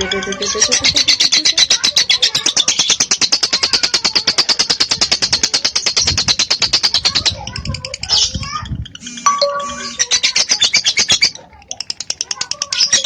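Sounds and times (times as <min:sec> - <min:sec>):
lovebird chattering: 0:00.0 - 0:13.0.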